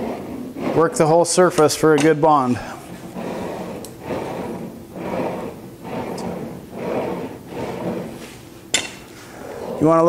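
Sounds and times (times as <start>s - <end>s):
steel roller rolling over laminate: 0.0s - 10.0s.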